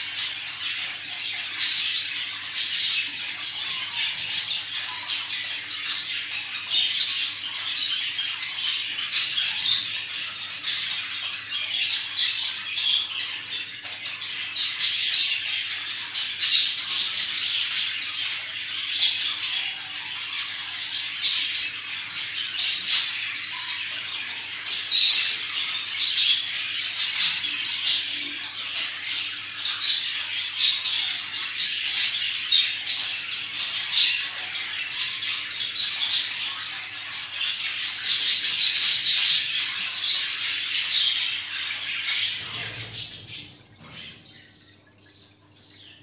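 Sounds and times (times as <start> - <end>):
budgerigars chattering: 0.0 - 44.6.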